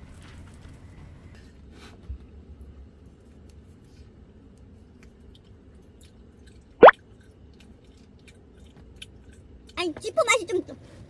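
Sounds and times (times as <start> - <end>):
chewing with small crunches: 0.1 - 10.1.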